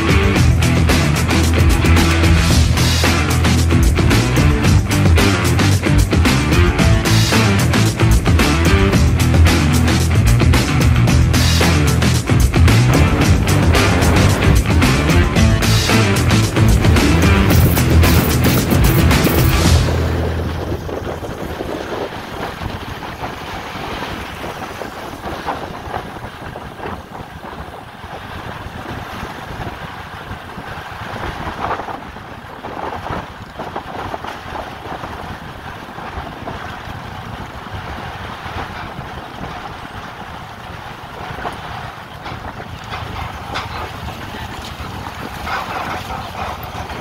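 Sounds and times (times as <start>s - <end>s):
moving vehicle rushing: 0.0s - 27.5s, 34.1s - 47.0s
wind buffeting microphone: 0.0s - 47.0s.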